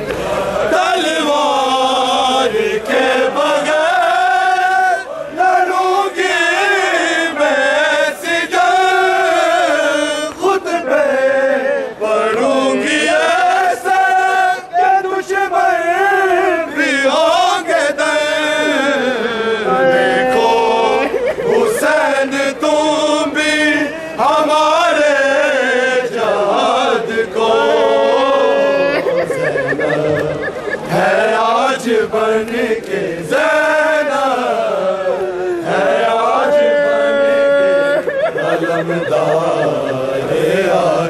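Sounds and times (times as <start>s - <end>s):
men chanting a lament: 0.0s - 41.0s.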